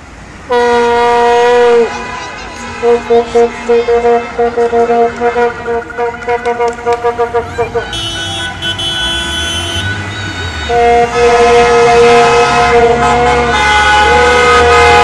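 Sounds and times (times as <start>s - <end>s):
traffic rumble: 0.0s - 15.0s
car horns honking: 0.5s - 15.0s
long loud car horn blast: 0.5s - 15.0s.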